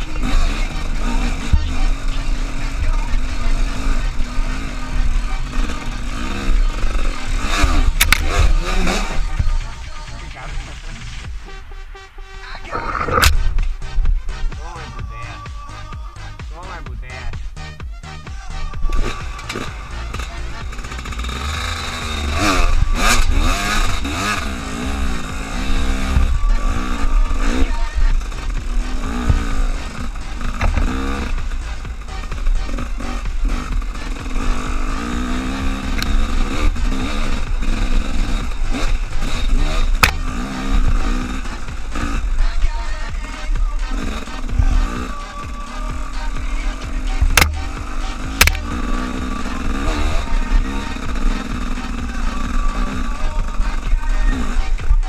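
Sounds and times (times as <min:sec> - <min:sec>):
vehicle engine revving: 0:00.0 - 0:55.0.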